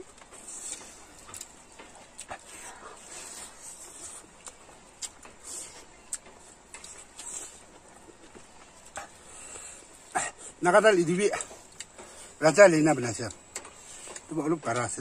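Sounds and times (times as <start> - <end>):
chewing and lip smacks: 0.0 - 12.4, 13.0 - 15.0.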